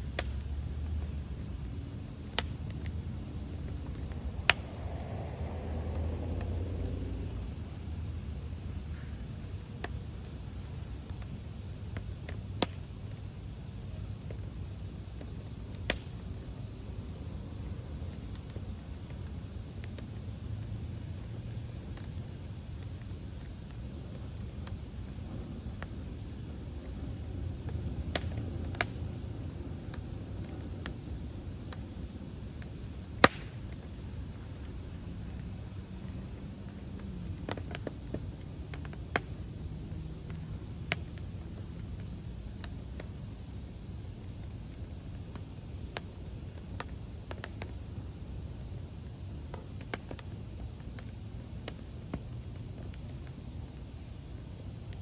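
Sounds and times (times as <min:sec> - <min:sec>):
firewood crackling pops: 0:00.0 - 0:16.8, 0:17.5 - 0:55.0
campfire rumble: 0:00.0 - 0:55.0
crickets chirping: 0:00.0 - 0:55.0.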